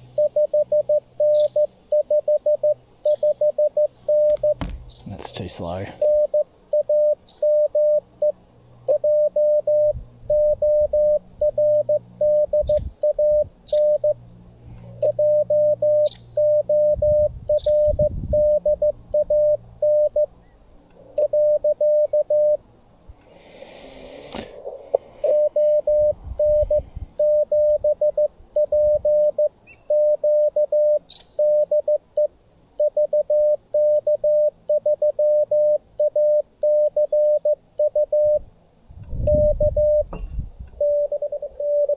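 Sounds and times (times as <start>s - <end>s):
morse code tone: 0.2s - 4.6s, 5.9s - 14.2s, 15.0s - 20.3s, 21.2s - 22.6s, 25.2s - 38.4s, 39.3s - 40.1s, 40.8s - 41.9s.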